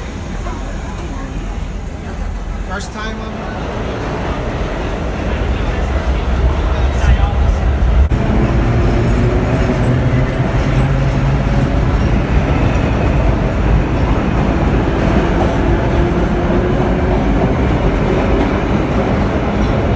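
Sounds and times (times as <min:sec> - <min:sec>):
subway train wheels rumbling on rail: 0:00.0 - 0:19.9.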